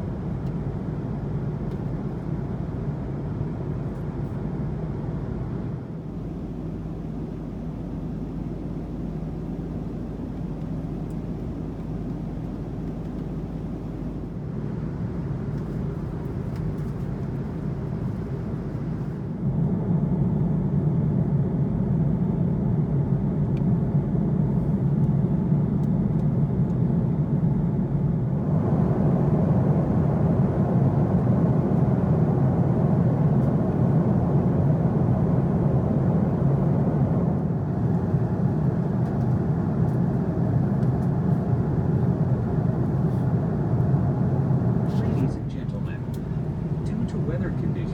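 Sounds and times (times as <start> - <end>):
airplane cabin noise: 0.0 - 47.9.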